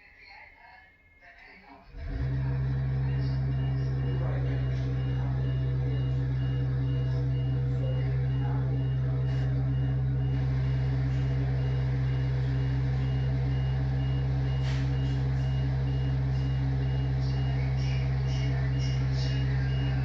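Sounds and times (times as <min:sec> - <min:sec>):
reversing alarm beeping: 0:00.8 - 0:20.0
low engine drone: 0:02.0 - 0:20.0.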